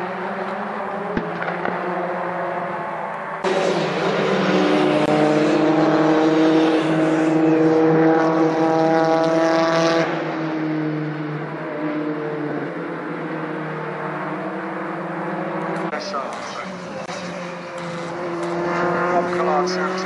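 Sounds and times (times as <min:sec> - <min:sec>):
racing car engine revving high: 0:00.0 - 0:20.0.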